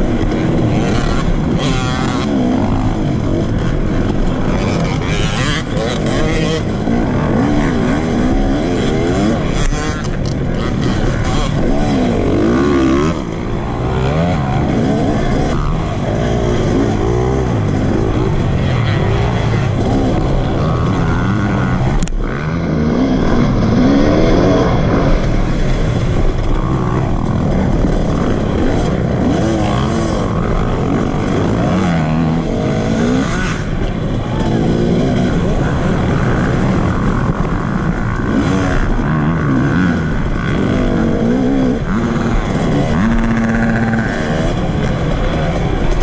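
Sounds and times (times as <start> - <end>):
dirt bike engine revving: 0.0 - 46.0
rumble of wheels and wind: 0.0 - 46.0.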